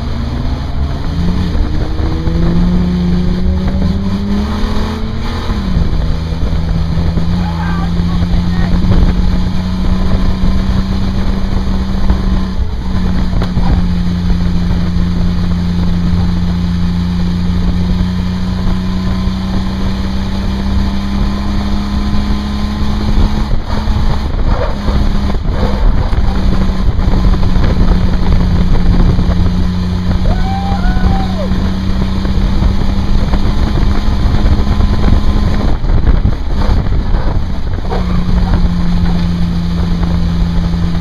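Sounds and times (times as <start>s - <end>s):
car engine droning: 0.0s - 41.0s
wind buffeting microphone: 0.0s - 41.0s.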